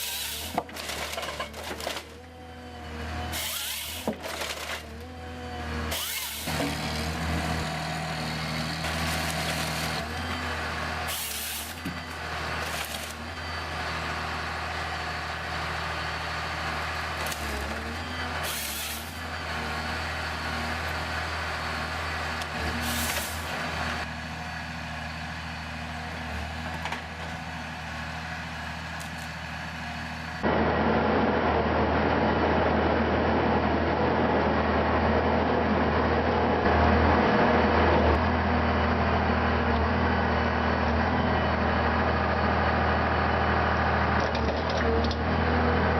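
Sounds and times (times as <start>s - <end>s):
heavy machinery engine running: 0.0s - 45.9s
rough machine noise: 0.0s - 45.9s.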